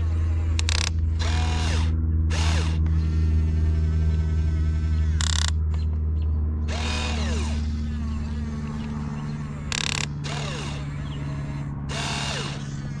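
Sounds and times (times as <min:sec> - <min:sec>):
electric motors whirring: 0:00.0 - 0:13.0.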